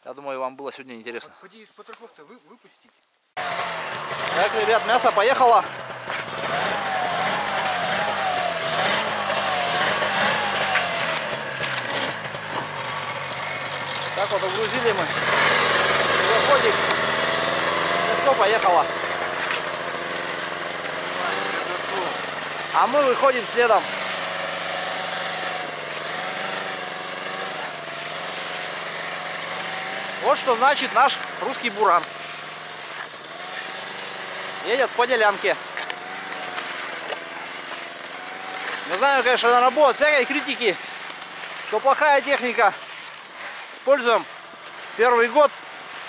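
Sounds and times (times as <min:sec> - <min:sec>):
snowmobile engine running: 0:03.4 - 0:46.0.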